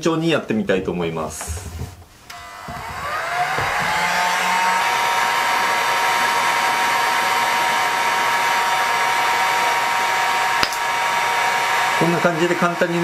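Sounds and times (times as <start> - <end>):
heat gun blowing air: 2.3 - 13.0.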